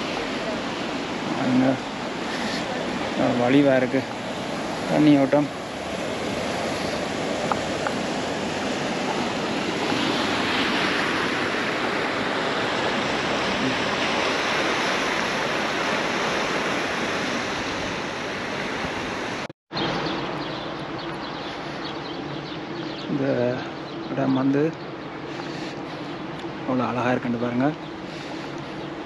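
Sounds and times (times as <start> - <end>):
stream flowing: 0.0 - 29.0.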